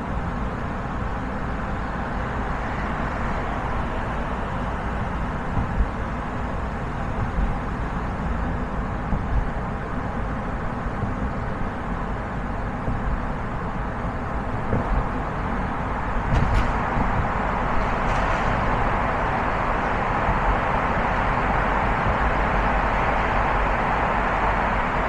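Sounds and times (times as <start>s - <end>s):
tyre and road noise: 0.0s - 25.0s.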